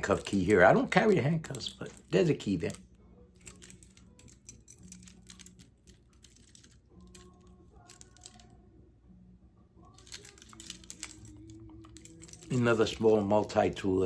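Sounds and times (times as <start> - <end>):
small metal tools clicking: 0.0 - 8.6, 10.0 - 13.6.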